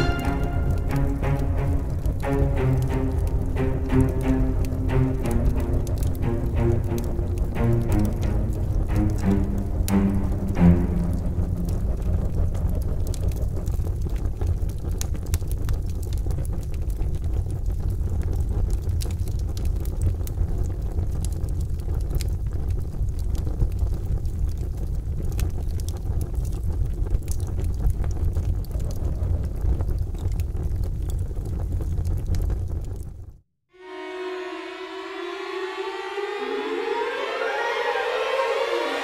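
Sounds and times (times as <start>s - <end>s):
fire crackling: 0.0s - 33.2s.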